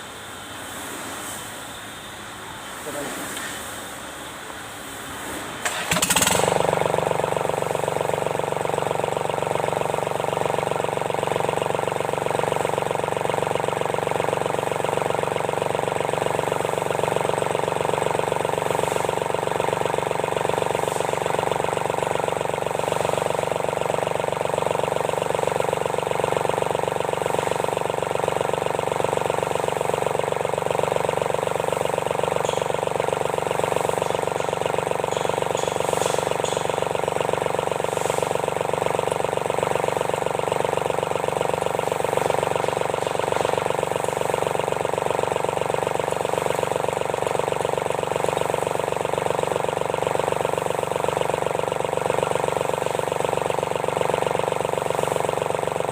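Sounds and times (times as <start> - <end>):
tractor diesel engine starting and running: 4.1 - 55.9.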